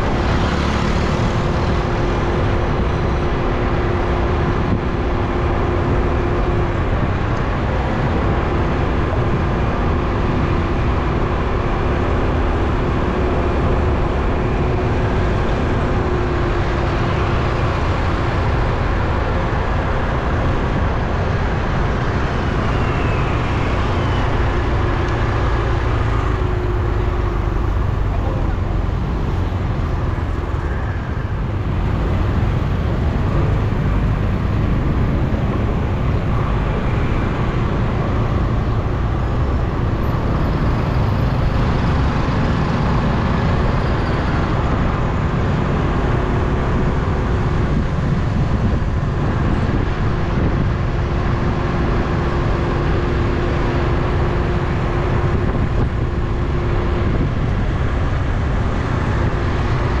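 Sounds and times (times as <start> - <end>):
faint engine hum: 0.0 - 60.0
traffic rumble: 0.0 - 60.0.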